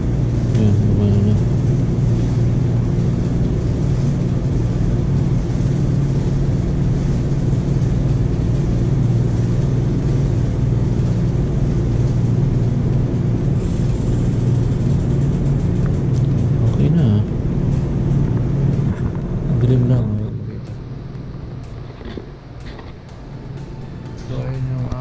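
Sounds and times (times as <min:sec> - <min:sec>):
bicycle drivetrain hum: 0:00.0 - 0:25.0
freewheel ticking: 0:00.0 - 0:25.0.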